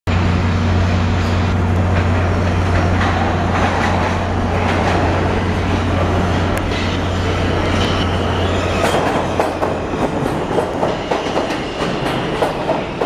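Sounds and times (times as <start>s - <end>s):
subway train wheels rumbling on rail: 0.1s - 13.0s.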